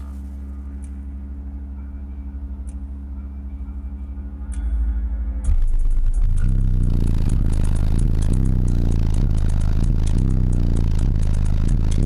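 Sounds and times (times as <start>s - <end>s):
subwoofer deep bass: 0.0s - 12.0s.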